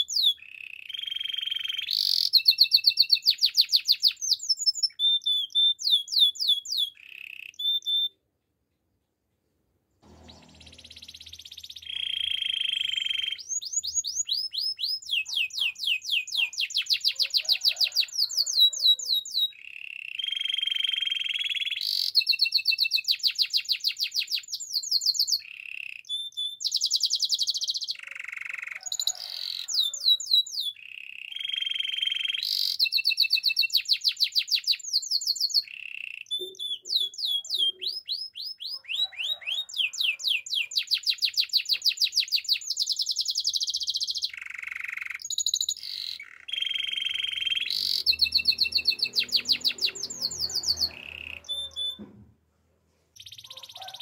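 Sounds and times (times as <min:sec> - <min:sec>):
canary singing trills: 0:00.0 - 0:08.2, 0:10.1 - 0:52.1, 0:53.2 - 0:54.0.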